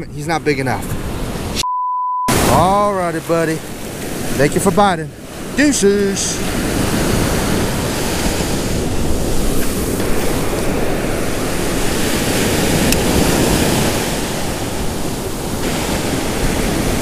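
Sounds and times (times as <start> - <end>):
ocean surf breaking on beach: 2.3 - 17.0.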